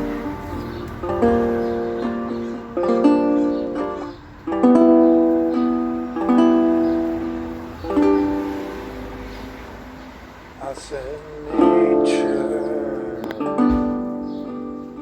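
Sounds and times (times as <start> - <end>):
plucked string chords: 0.0 - 15.0.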